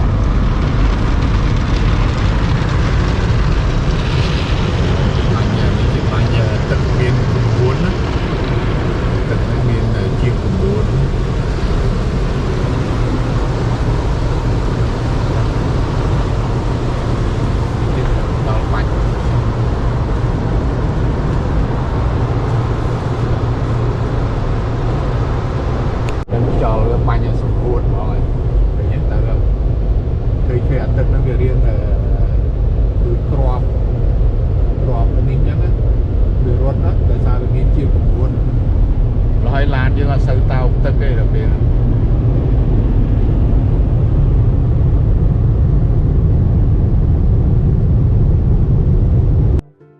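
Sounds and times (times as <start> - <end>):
vehicle low rumble: 0.0 - 49.7.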